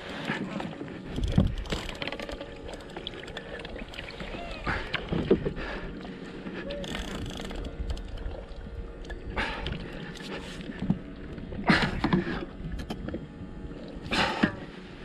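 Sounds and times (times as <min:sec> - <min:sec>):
sea water washing: 0:00.0 - 0:15.0.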